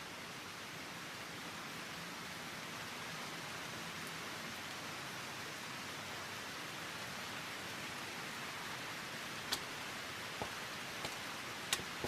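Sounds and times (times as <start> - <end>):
rain-like hiss: 0.0 - 12.0.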